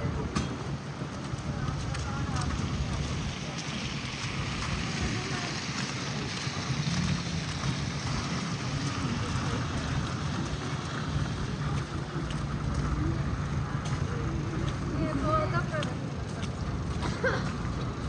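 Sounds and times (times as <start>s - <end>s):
low engine hum: 0.0s - 18.0s
traffic: 0.0s - 18.0s
wind: 0.0s - 18.0s.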